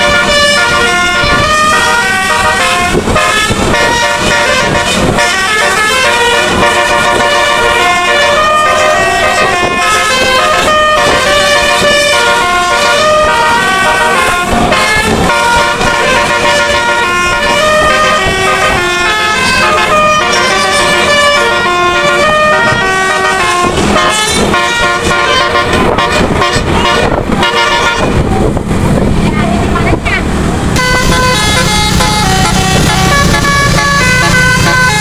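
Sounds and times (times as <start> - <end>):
musical air horn playing a tune: 0.0 - 28.3, 30.8 - 35.0.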